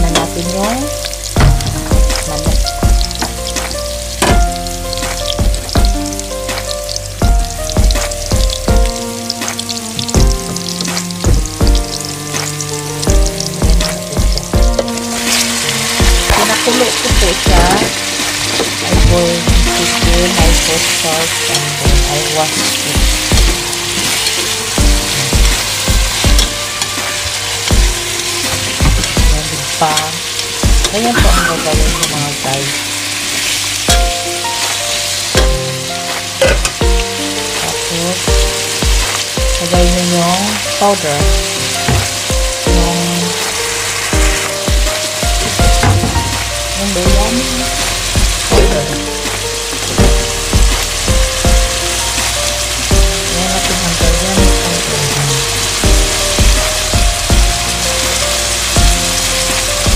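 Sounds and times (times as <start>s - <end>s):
background music with steady beat: 0.0s - 59.9s
food sizzling in hot oil: 0.0s - 59.9s.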